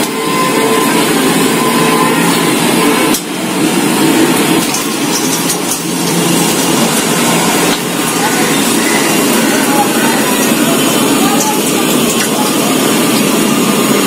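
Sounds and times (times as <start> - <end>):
motor-like hum: 0.0 - 14.0.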